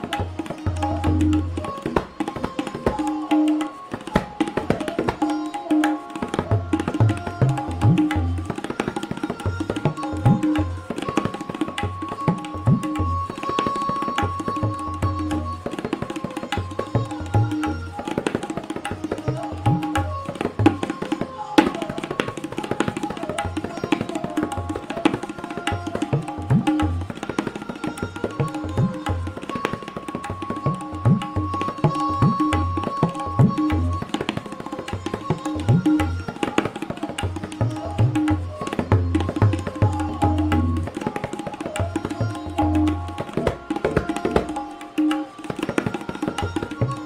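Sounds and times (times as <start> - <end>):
rapid treble tabla strokes: 0.0 - 47.0.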